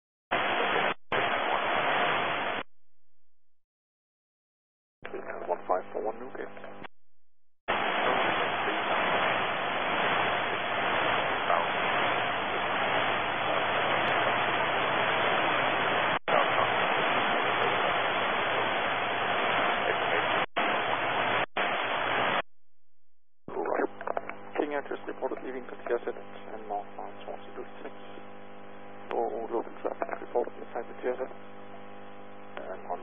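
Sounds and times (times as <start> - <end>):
radio static hiss: 0.3 - 2.7, 5.0 - 6.9, 7.7 - 22.4, 23.5 - 33.0.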